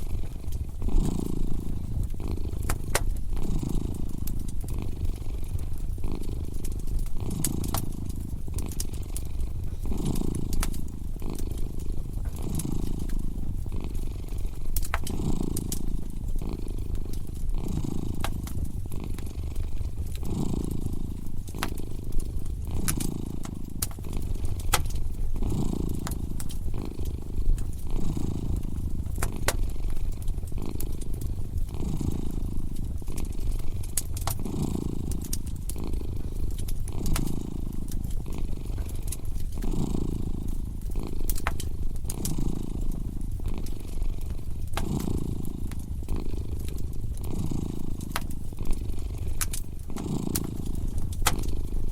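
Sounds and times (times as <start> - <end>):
cat purring: 0.0 - 51.9
wood fire crackling: 0.0 - 51.9.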